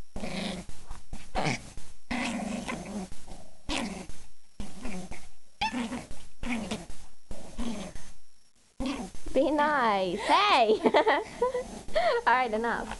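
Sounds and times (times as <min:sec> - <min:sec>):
dogs growling in play: 0:00.2 - 0:08.2, 0:08.8 - 0:09.9, 0:10.9 - 0:12.9.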